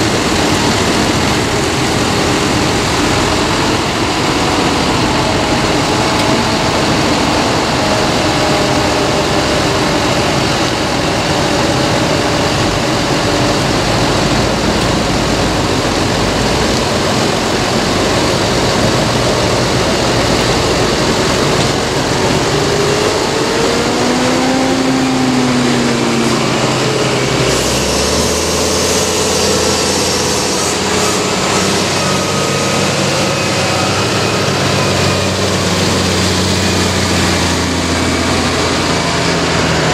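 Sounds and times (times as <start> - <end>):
tractor diesel engines passing: 0.0 - 39.9.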